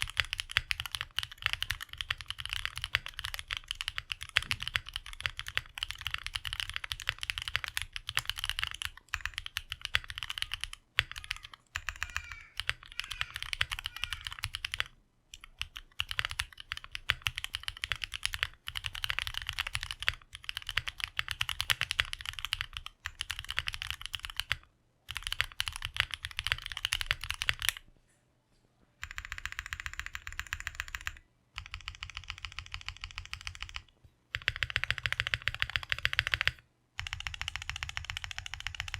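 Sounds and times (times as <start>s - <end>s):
mechanical keyboard keys clacking: 0.0s - 27.8s, 29.0s - 38.9s.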